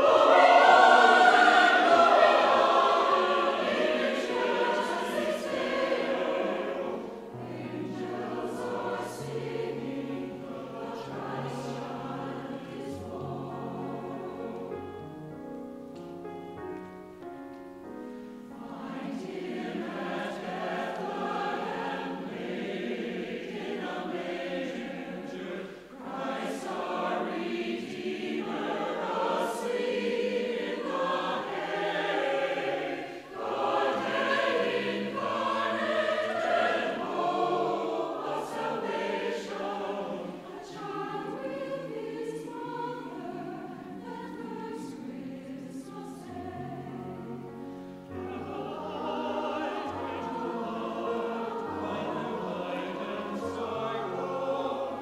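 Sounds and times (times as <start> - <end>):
choir singing: 0.0 - 15.1, 18.2 - 55.0.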